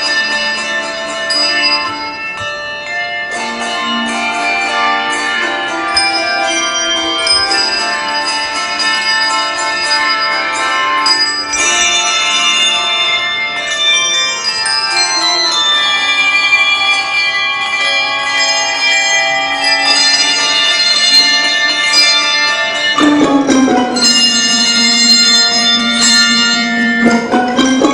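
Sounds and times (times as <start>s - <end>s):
handbell choir playing: 0.0s - 27.9s.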